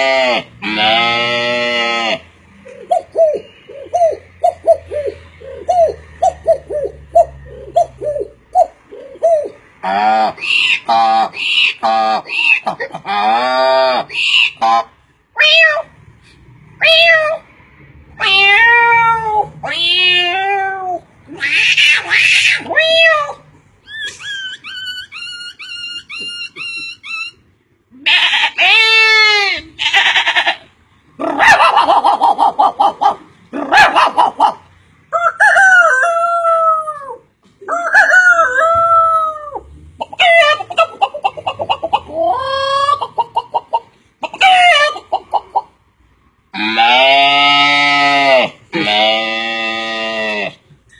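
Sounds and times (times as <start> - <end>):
man imitating animal calls: 0.0 - 15.9, 18.2 - 43.5, 46.5 - 50.9.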